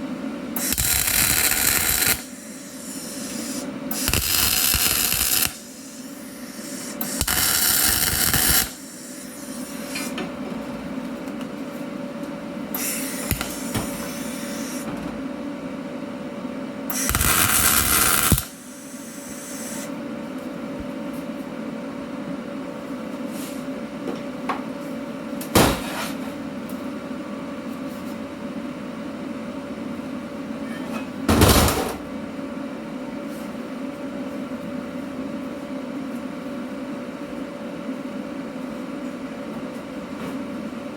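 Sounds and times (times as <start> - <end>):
steady machine hum: 0.0 - 40.9.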